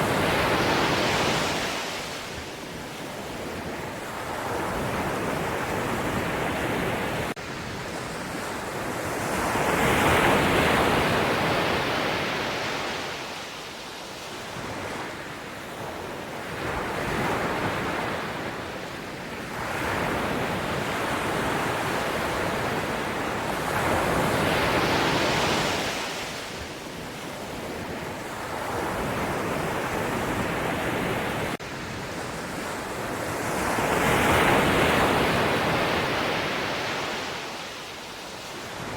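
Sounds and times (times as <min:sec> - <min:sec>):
ocean waves breaking: 0:00.0 - 0:15.9, 0:19.6 - 0:38.9.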